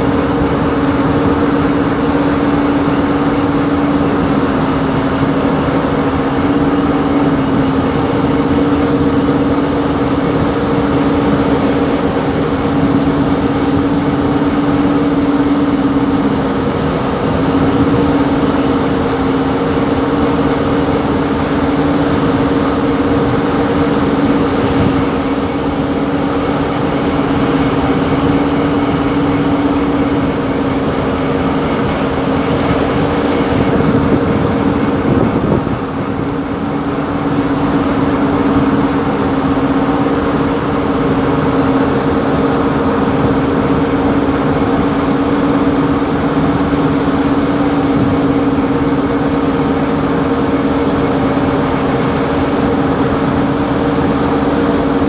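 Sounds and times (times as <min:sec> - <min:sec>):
boat engine humming: 0:00.0 - 0:55.0
water rushing along hull: 0:00.0 - 0:55.0.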